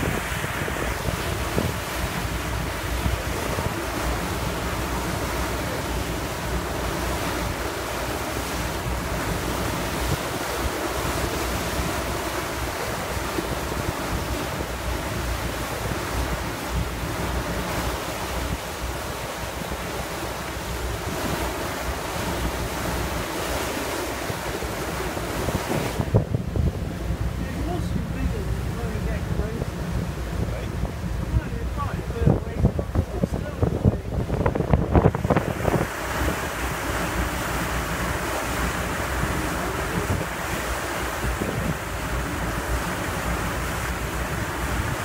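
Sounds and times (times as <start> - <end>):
water rushing along boat hull: 0.0 - 45.0
wind buffeting microphone: 0.0 - 45.0.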